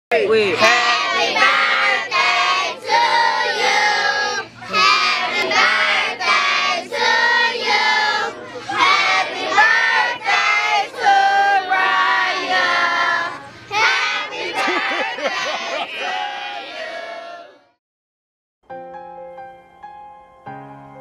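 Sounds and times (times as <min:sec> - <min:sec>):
crowd singing and shouting: 0:00.6 - 0:17.8.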